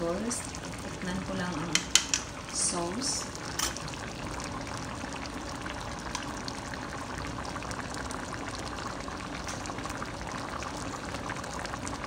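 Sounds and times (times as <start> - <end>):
stew bubbling with small pops: 0.4 - 2.6, 3.3 - 12.0.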